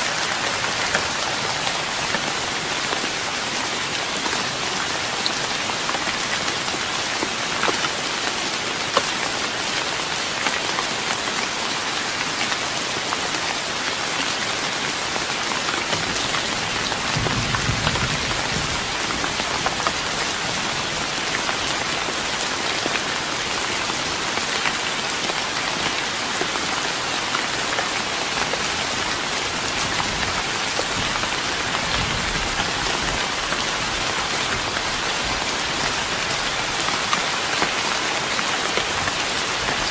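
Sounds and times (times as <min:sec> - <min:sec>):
rain on a wooden deck: 0:00.0 - 0:39.9.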